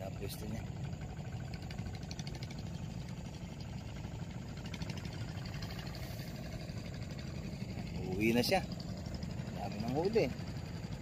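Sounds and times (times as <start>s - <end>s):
small boat engine droning: 0.0s - 11.0s.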